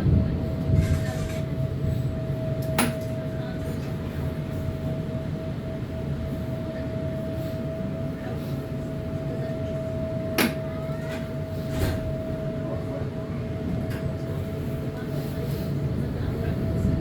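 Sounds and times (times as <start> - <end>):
tram rumbling on rails: 0.0 - 17.0
tram whine: 0.0 - 17.0.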